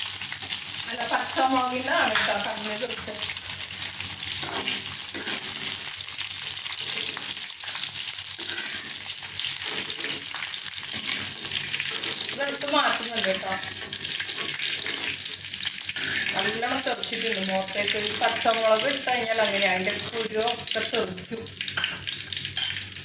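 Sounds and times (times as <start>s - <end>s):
hot oil sizzling and spattering: 0.0s - 23.0s.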